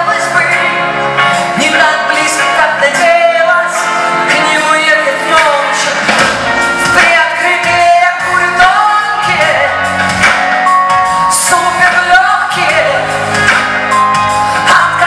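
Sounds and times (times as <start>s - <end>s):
woman singing pop song: 0.0s - 15.0s
band with drum beat: 0.3s - 15.0s.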